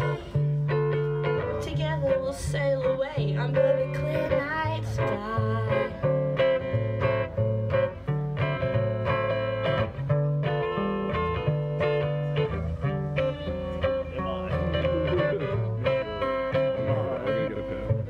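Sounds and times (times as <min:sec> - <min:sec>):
electric guitar strumming chords: 0:00.0 - 0:18.0.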